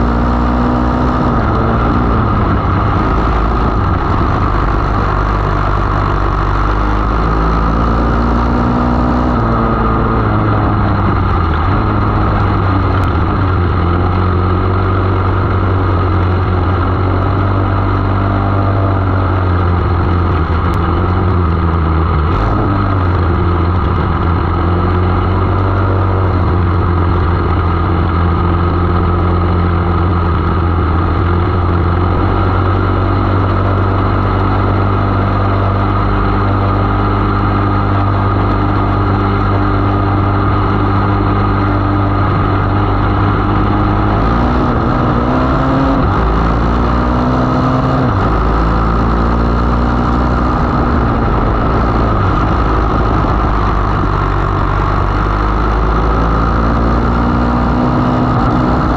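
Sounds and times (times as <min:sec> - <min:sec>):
racing car engine: 0:00.0 - 0:58.9.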